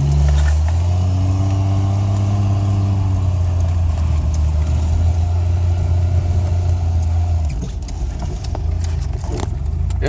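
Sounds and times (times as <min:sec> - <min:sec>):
car engine running under load: 0:00.0 - 0:10.0.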